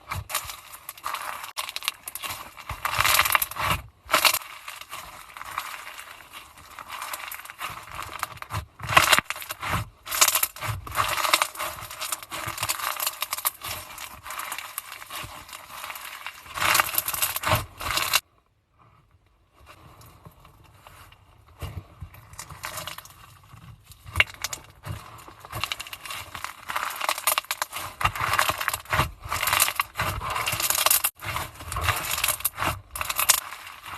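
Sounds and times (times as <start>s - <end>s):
slime crackling and popping: 0.0s - 18.2s, 23.9s - 33.9s.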